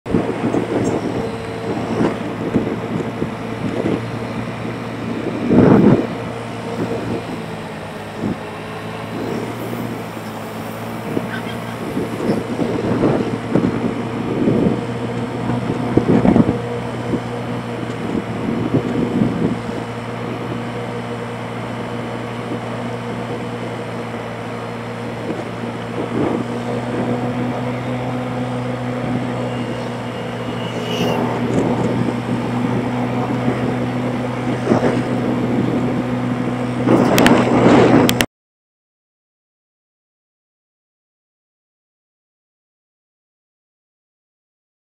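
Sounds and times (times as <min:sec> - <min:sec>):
wind rushing over microphone: 0:00.1 - 0:38.3.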